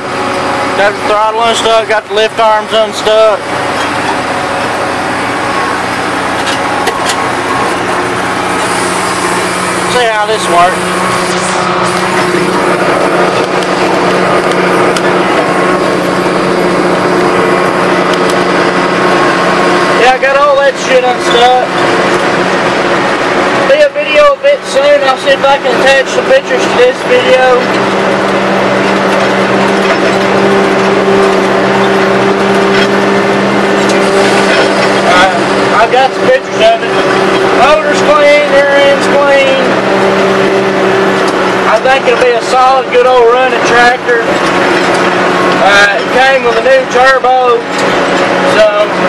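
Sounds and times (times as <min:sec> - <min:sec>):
diesel tractor engine running: 0:00.0 - 0:49.0.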